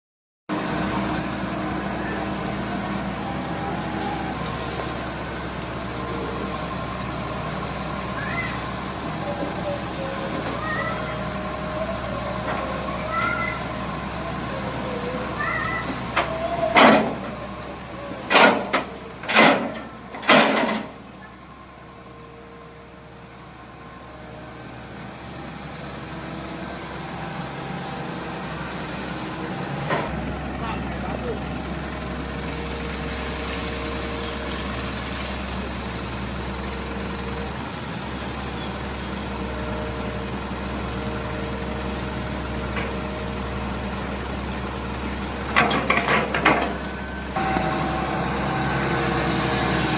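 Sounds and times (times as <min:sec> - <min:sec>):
heavy machinery diesel engine running: 0:00.5 - 0:49.9.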